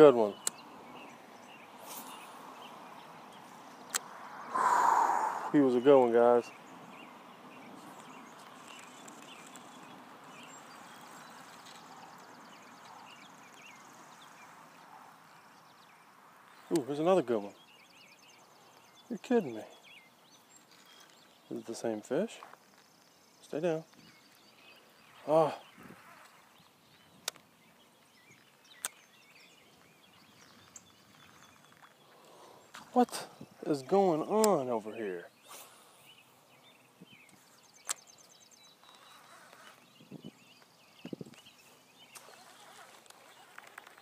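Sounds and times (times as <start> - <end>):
faint bird chirps: 0.1 - 21.6, 22.4 - 44.0.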